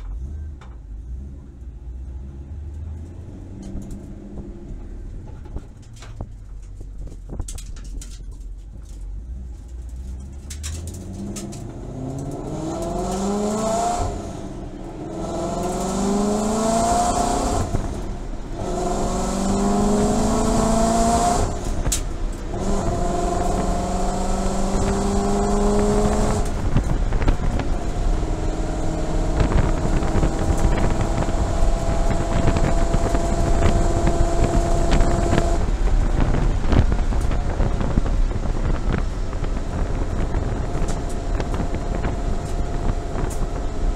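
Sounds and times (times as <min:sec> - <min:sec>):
car engine accelerating through gears: 0:00.0 - 0:08.0, 0:08.8 - 0:43.9.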